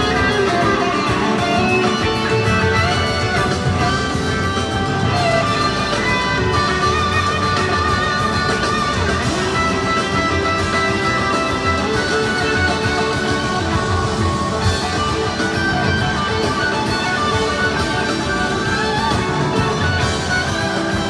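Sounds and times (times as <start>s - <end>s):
electric guitar sustained notes: 0.0s - 21.0s
live rock band: 0.0s - 21.0s.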